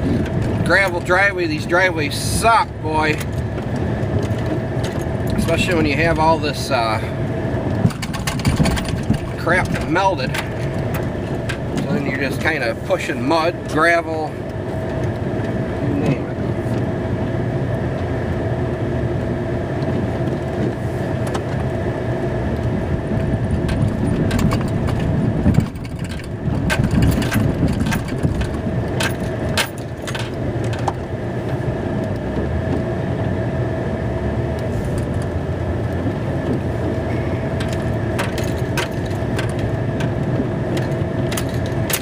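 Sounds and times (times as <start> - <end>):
plow scraping and rattling: 0.0 - 42.0
steady whine: 0.0 - 42.0
truck engine running: 0.0 - 42.0.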